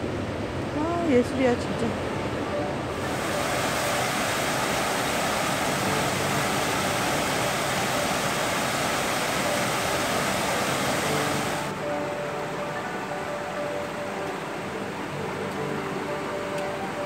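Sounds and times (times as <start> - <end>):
water rushing over rocks: 2.8 - 17.0.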